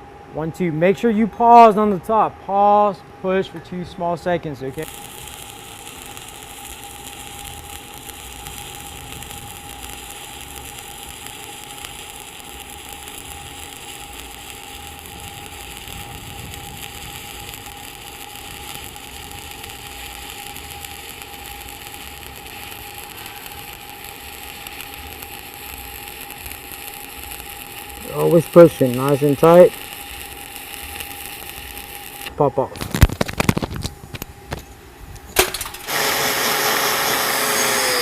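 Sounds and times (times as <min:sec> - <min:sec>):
welding arc crackling sizzle: 0:02.8 - 0:38.0.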